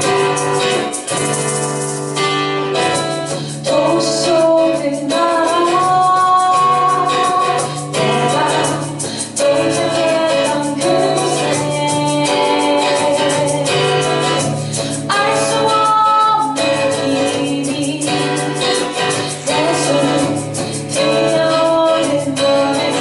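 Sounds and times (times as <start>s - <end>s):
live band with singing: 0.0s - 23.0s.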